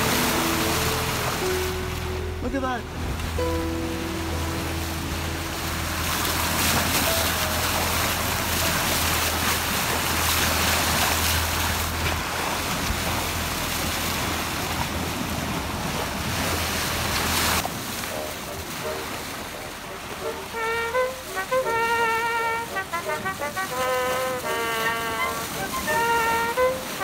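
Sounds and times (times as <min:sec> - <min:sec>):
sea water rushing along a hull: 0:00.0 - 0:27.0.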